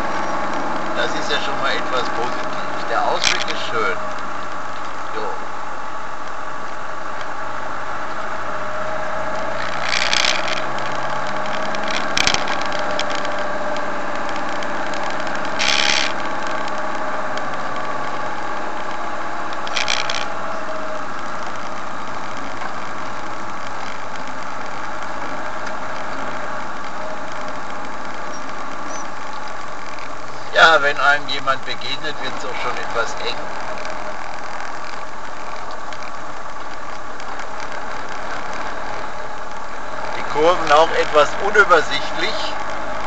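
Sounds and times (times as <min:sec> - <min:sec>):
motorhome engine running: 0:00.0 - 0:43.0.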